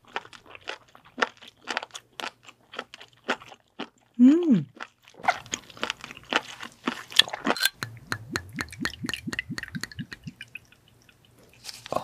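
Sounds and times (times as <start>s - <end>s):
wet crunchy chewing: 0.0s - 12.0s.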